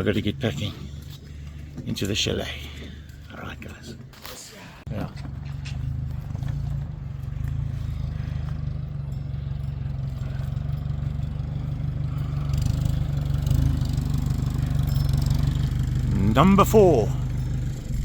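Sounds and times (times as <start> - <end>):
vehicle engine running: 0.0 - 4.1, 4.9 - 18.0.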